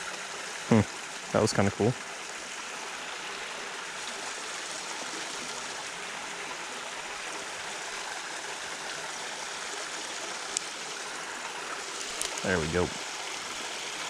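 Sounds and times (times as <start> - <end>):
creek water babbling over rocks: 0.0 - 14.0.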